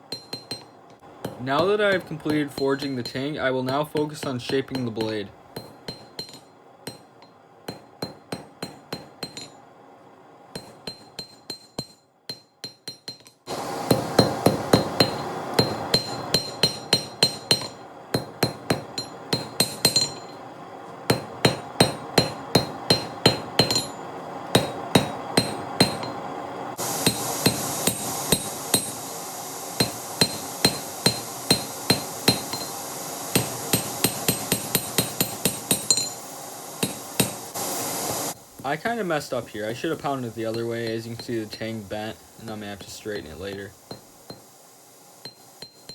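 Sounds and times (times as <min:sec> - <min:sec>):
hammer striking steel on anvil: 0:00.0 - 0:09.6, 0:10.5 - 0:29.1, 0:29.7 - 0:37.6, 0:40.4 - 0:41.9, 0:43.4 - 0:44.5
steady rushing noise: 0:00.0 - 0:45.9.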